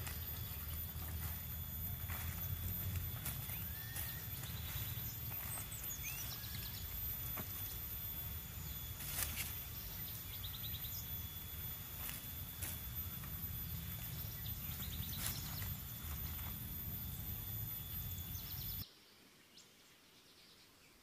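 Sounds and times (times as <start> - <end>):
bird chirps and trills: 0.0 - 18.9
high insect drone: 0.0 - 18.9.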